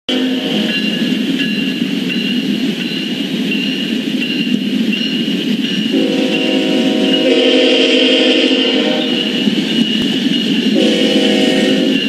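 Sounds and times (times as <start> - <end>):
locomotive engine and wheels rumbling: 0.1 - 12.0.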